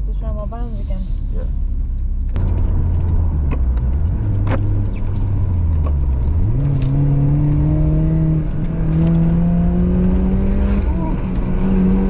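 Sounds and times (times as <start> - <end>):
car engine accelerating hard: 2.3 - 12.0.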